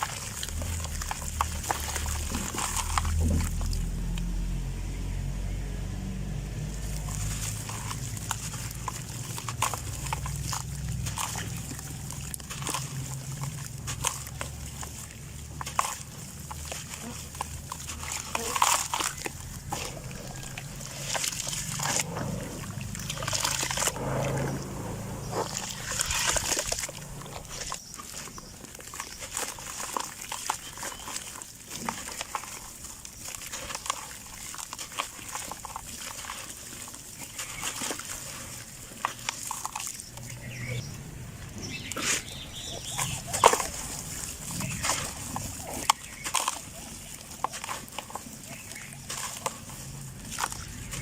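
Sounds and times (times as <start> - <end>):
dirt crunching and crumbling: 0.0 - 51.0
wet squelchy dirt: 0.0 - 51.0.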